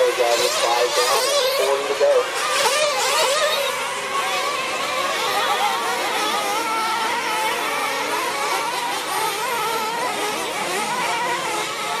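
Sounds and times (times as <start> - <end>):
rc truck engines whining: 0.0 - 12.0.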